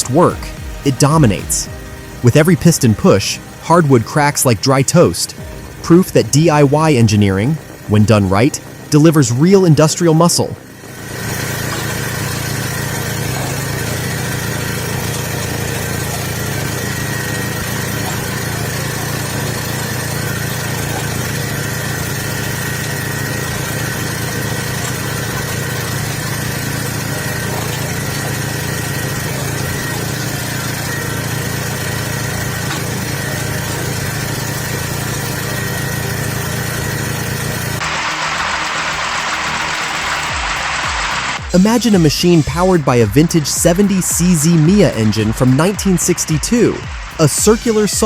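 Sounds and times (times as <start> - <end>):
log splitter engine humming: 0.0 - 48.0.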